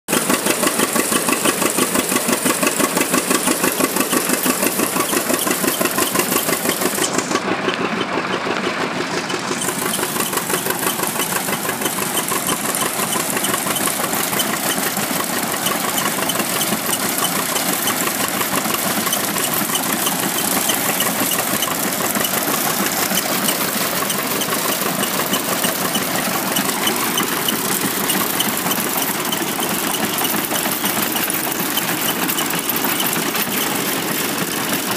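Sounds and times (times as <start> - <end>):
threshing machine chugging and clatter: 0.1 - 34.9.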